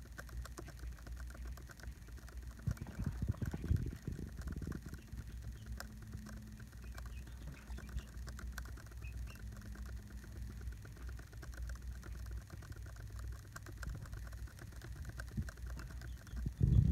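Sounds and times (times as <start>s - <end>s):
low steady hum: 0.0s - 16.9s
mouse scroll wheel clicking: 0.0s - 16.9s.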